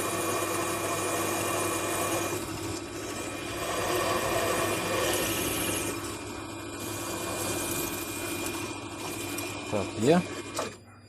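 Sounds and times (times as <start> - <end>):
electric drill boring metal: 0.0 - 10.8.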